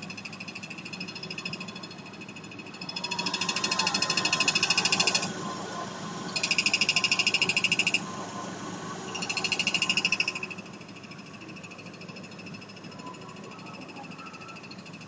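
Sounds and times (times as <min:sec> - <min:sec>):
bearing whistling chirping warble: 0:00.0 - 0:05.3, 0:06.2 - 0:08.2, 0:09.1 - 0:15.0
engine humming: 0:00.7 - 0:15.0.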